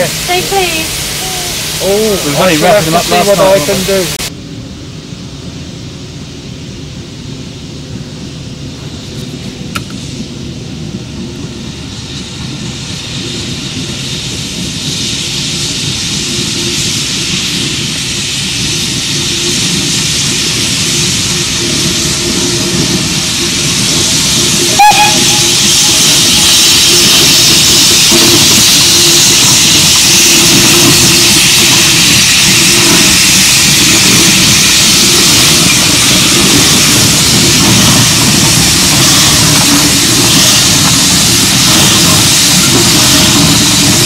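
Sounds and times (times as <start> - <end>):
steam locomotive passing: 0.0 - 44.0.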